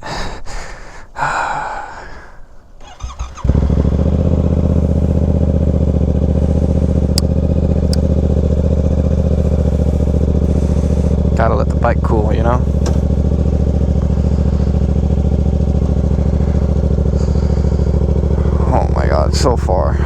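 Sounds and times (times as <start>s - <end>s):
motorcycle engine idling: 2.8s - 20.0s.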